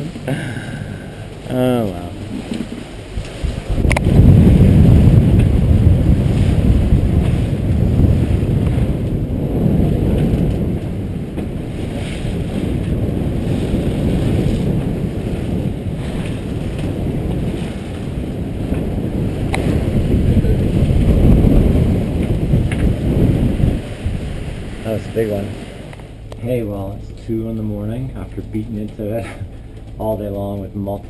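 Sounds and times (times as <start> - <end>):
boat pounding through waves: 0.0 - 31.0
low rumbling noise: 0.0 - 31.0
rushing sea water: 0.0 - 31.0
wind buffeting microphone: 0.0 - 31.0.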